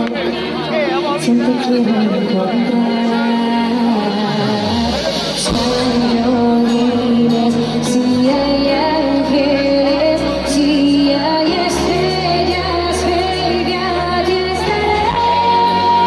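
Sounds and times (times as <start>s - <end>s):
pop band music: 0.0s - 16.0s.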